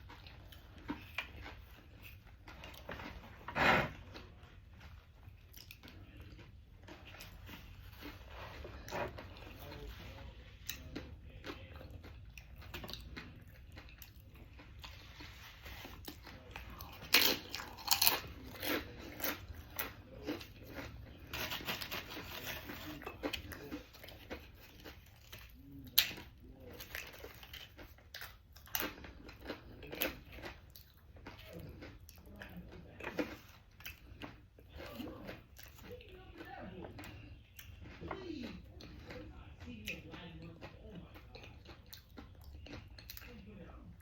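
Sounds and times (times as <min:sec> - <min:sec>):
person crunching and chewing food: 0:00.0 - 0:44.0.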